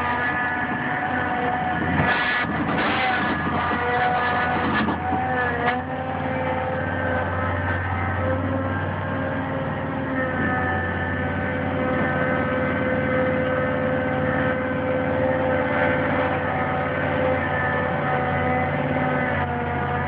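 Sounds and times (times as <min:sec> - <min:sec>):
excavator diesel engine running: 0:00.0 - 0:20.0
steady whine: 0:00.0 - 0:20.0.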